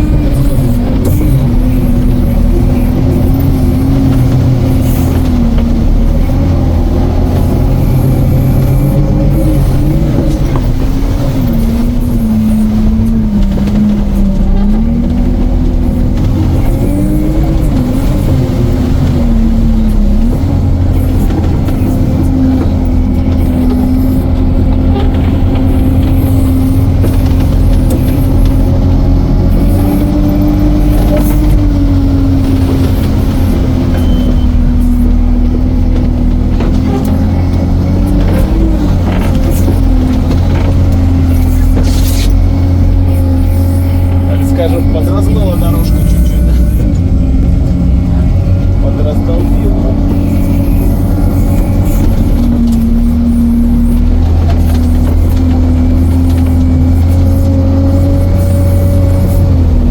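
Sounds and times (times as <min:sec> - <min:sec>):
vehicle engine running under load: 0:00.0 - 0:59.9.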